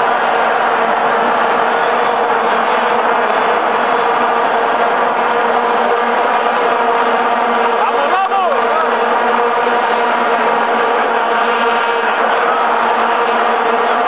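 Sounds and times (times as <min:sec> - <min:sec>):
stadium crowd noise: 0:00.0 - 0:14.0
vuvuzelas droning: 0:00.0 - 0:14.0.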